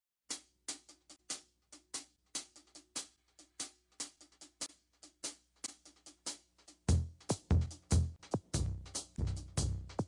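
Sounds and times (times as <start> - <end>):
snare and kick drum beat: 0.3 - 10.0.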